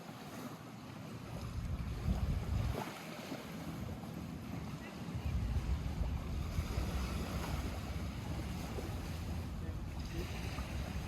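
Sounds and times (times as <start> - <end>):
water lapping at shore: 0.0 - 11.0
wind buffeting microphone: 1.2 - 11.0.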